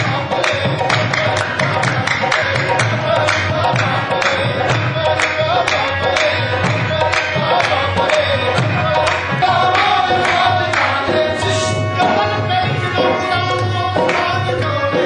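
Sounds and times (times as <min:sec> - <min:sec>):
group singing together: 0:00.0 - 0:15.0
harmonium: 0:00.0 - 0:15.0.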